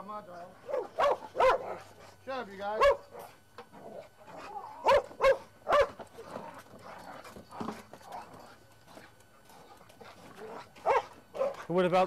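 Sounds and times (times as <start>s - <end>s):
dogs barking: 0.6s - 11.8s.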